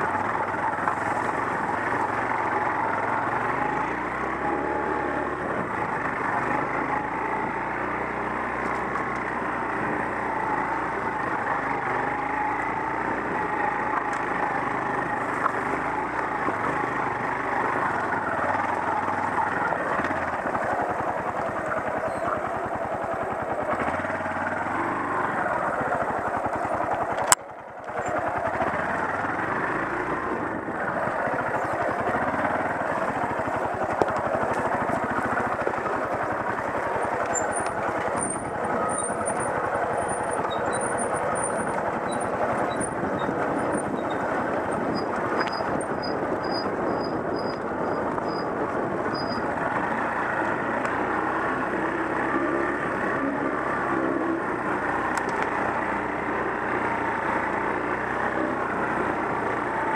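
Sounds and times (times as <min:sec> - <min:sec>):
off-road motorcycle engine: 0:00.0 - 0:59.9.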